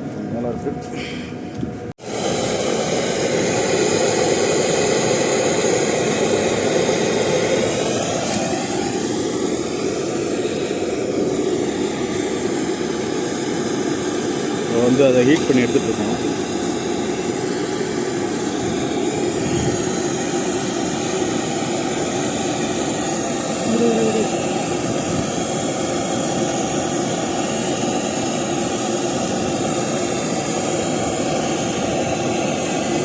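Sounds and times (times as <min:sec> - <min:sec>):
torch flame roaring: 0:02.0 - 0:33.0.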